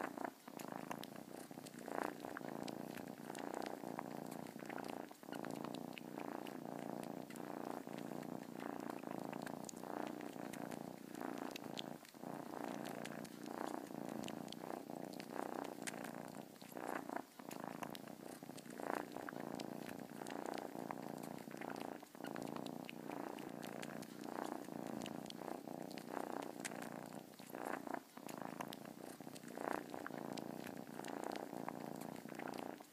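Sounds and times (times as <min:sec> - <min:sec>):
cat purring: 0:00.0 - 0:32.9.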